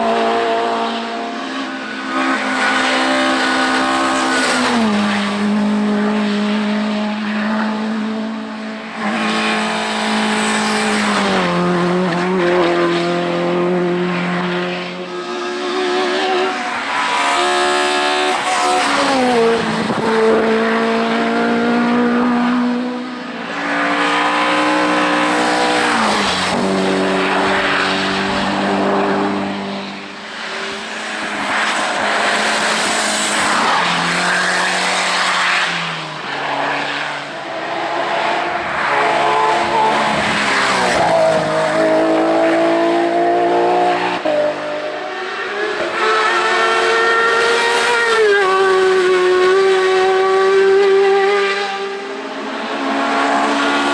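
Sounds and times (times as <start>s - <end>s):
race car engines at high revs: 0.0s - 53.9s
race car rushing past: 0.0s - 53.9s.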